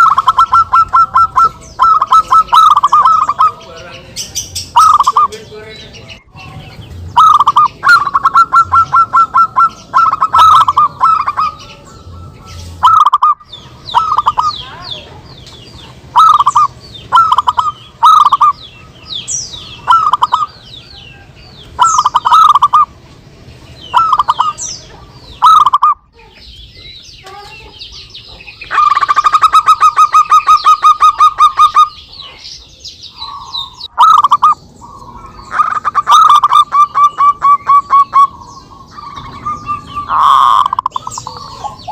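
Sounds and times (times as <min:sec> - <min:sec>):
doves cooing: 0:00.0 - 0:26.5, 0:27.2 - 0:41.9.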